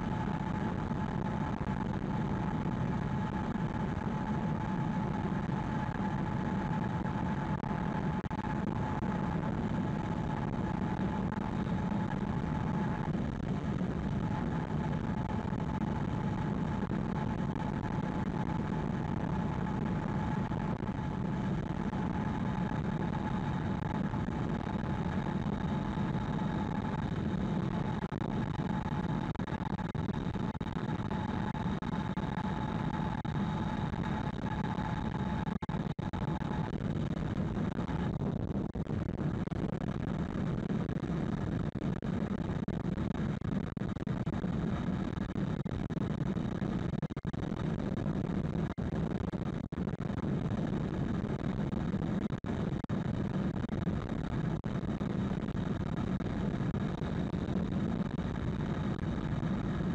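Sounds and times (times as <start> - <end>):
thin steady whine: 0.0 - 59.9.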